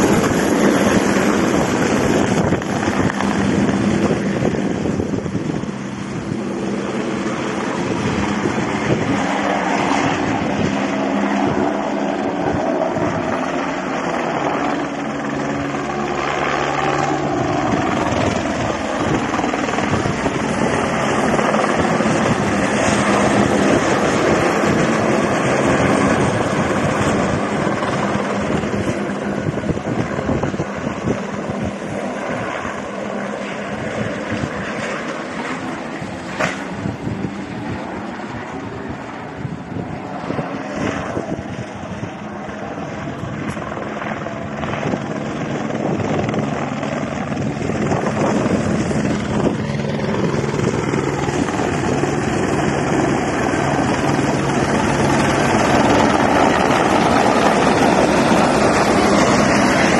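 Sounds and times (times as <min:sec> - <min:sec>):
helicopter flying past: 0:00.0 - 0:59.9.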